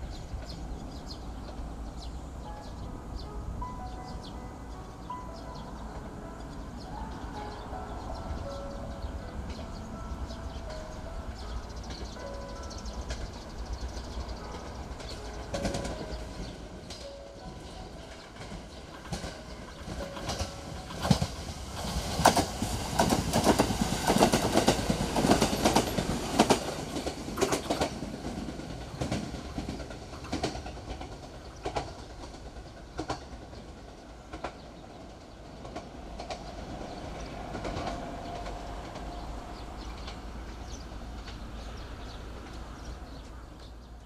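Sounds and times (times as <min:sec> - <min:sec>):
train wheels clacking over rails: 0:06.4 - 0:43.8.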